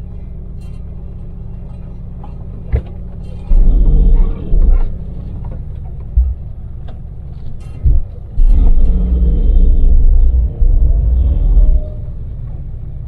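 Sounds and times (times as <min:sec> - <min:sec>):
heavy low rumbles: 0:00.0 - 0:13.0
van engine droning inside cabin: 0:00.0 - 0:13.0.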